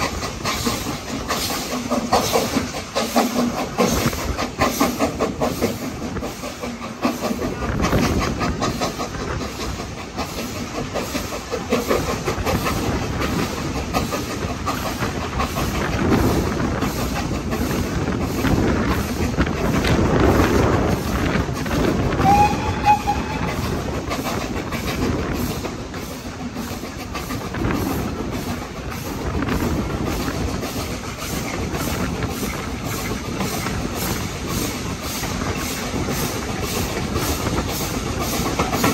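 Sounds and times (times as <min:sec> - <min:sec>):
steam locomotive exhaust beat: 0:00.0 - 0:38.9
train wheels clattering over rails: 0:00.0 - 0:38.9.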